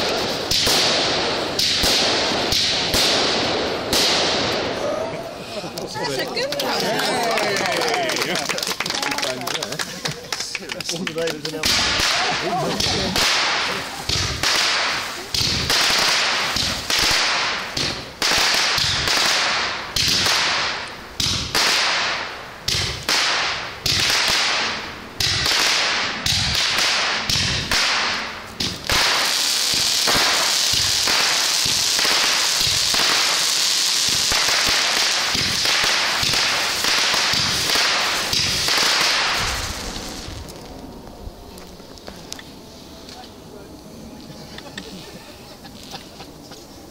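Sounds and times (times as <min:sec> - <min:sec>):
firework barrage cracking: 0:00.0 - 0:43.2
fireworks hissing: 0:00.0 - 0:46.9.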